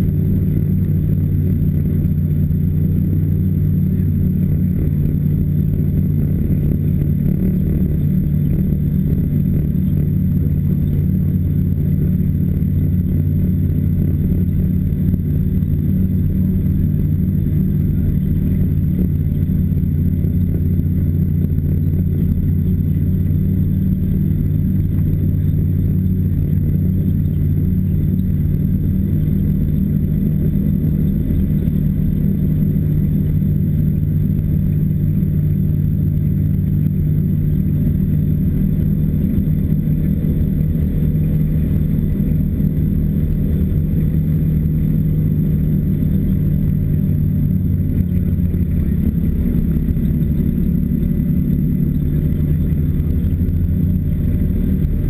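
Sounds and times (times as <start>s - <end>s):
small engine droning: 0.0s - 55.0s.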